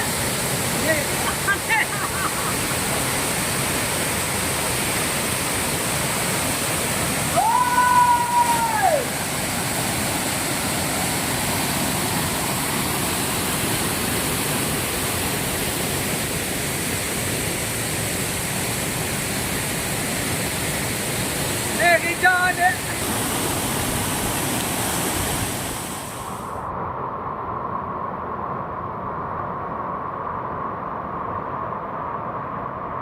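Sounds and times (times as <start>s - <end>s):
waterfall rushing: 0.0s - 26.6s.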